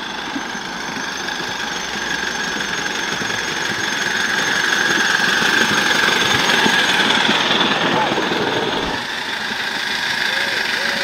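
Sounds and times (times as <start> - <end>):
clatter of running gear and wheels: 0.0 - 11.0
miniature steam locomotive: 0.0 - 11.0
steady high-pitched squeal: 0.0 - 11.0.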